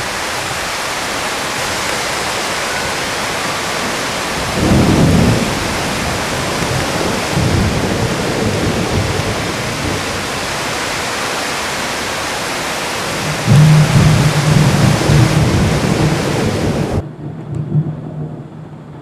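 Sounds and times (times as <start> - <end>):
heavy rain on concrete: 0.0 - 19.0.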